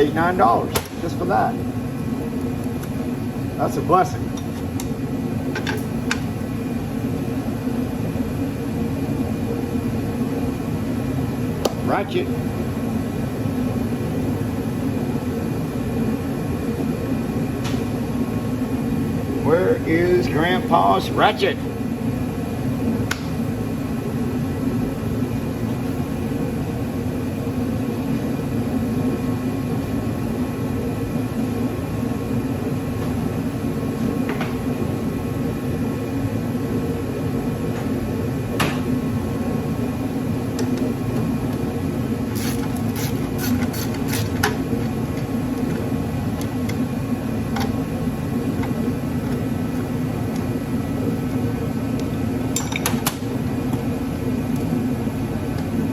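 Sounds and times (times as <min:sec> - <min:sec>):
heater drone: 0:00.0 - 0:55.9.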